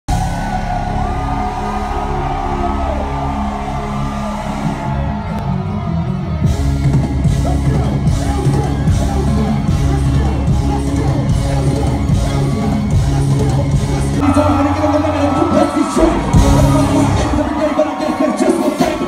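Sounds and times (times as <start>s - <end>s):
loud live concert music: 0.1s - 19.0s.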